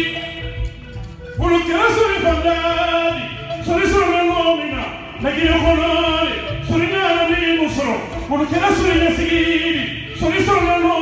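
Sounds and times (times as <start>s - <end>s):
man singing into a microphone: 1.4s - 11.0s.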